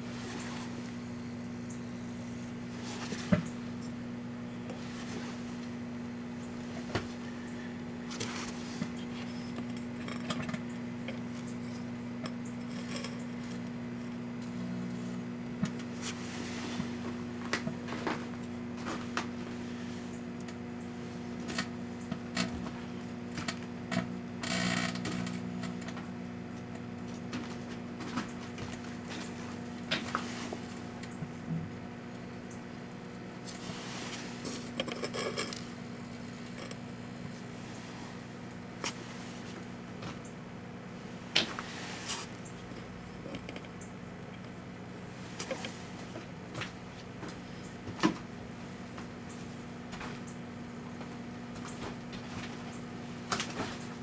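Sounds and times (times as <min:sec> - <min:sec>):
microwave oven humming: 0:00.0 - 0:54.0.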